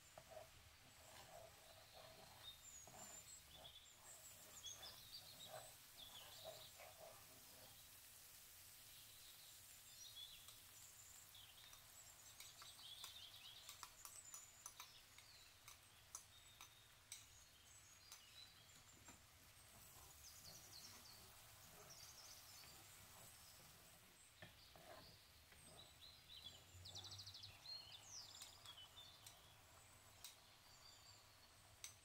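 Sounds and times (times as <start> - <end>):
low hiss: 0.0 - 32.0
spices frying in oil: 0.0 - 32.0.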